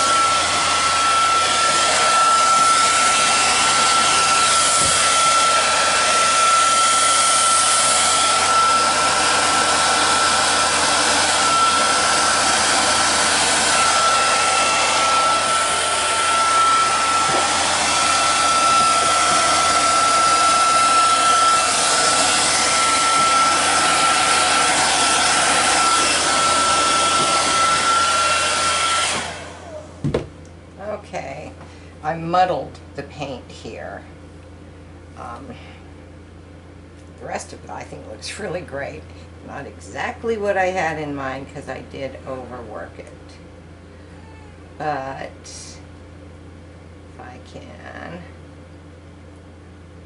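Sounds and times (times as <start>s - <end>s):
hair dryer blowing with high whine: 0.0s - 34.2s, 37.2s - 48.4s.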